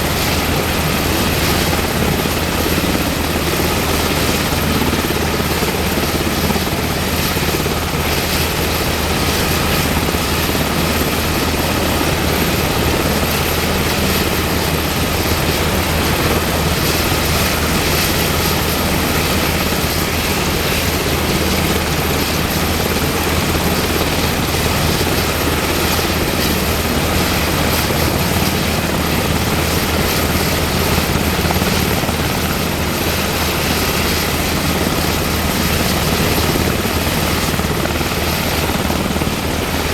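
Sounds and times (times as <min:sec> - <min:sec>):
helicopter engine whine: 0:00.0 - 0:39.9
helicopter rotor drone: 0:00.0 - 0:39.9.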